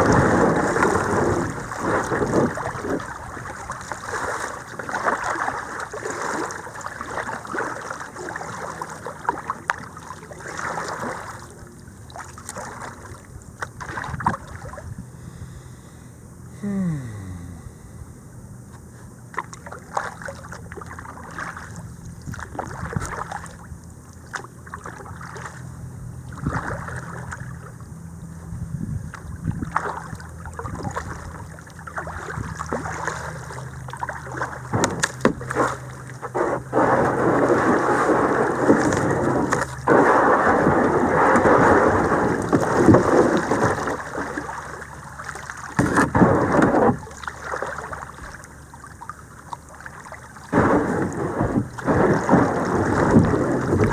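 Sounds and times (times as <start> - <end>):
paddle strokes: 0.0 - 16.0, 19.3 - 27.8, 29.1 - 53.9
water sloshing against hull: 0.0 - 18.0, 18.6 - 53.9.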